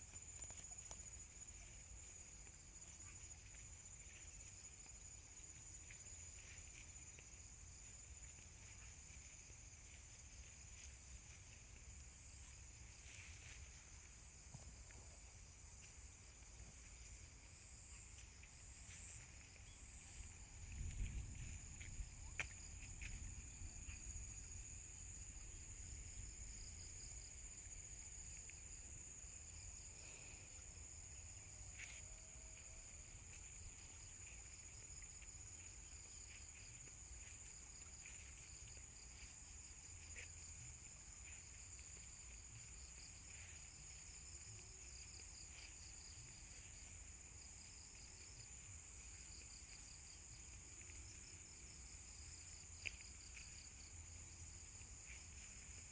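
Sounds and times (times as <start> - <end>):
insect trill: 0.0 - 55.9.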